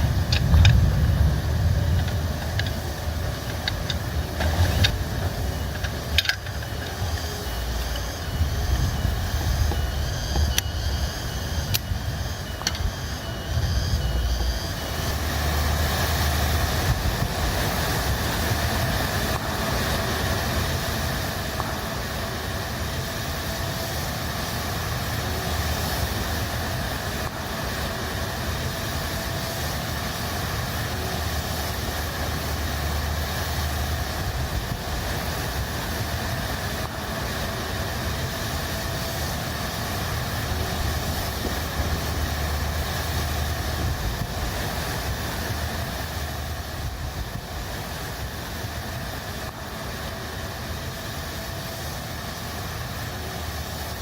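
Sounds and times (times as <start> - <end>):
storm wind gusting: 0.0 - 48.9
heavy rain hiss: 0.0 - 54.0.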